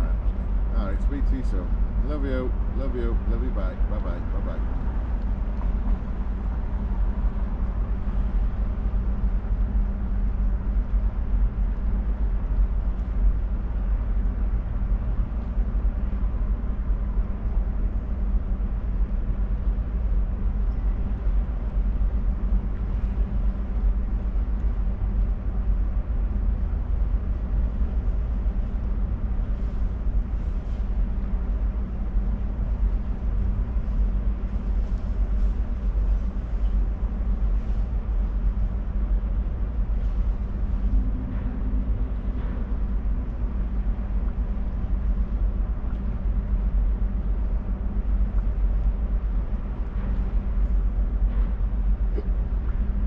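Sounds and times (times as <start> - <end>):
steady low rumble with hum: 0.0 - 53.0.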